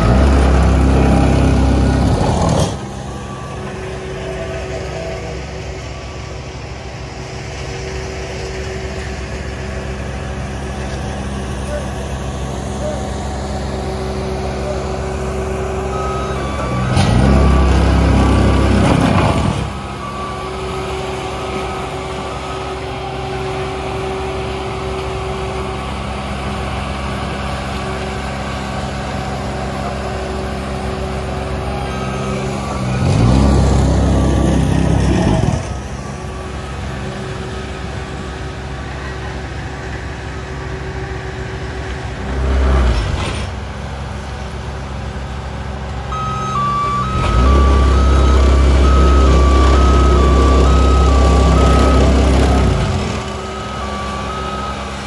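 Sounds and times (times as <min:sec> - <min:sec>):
reversing alarm beeping: 0:00.0 - 0:42.8, 0:45.6 - 0:55.0
heavy diesel machinery running: 0:00.0 - 0:55.0.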